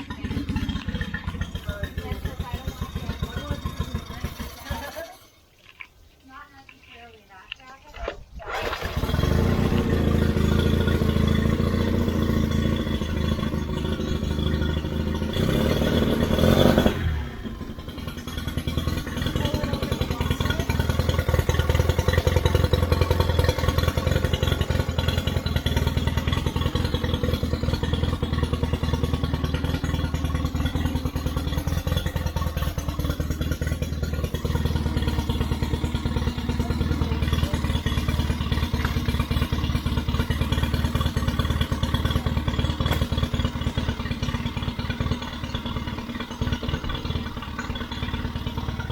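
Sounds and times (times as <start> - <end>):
outboard motor running: 0.0 - 6.4, 7.4 - 48.9.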